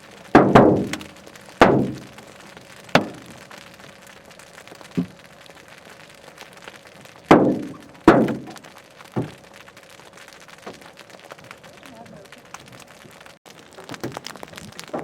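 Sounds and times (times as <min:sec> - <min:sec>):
hailstones striking a vehicle: 0:00.0 - 0:15.0.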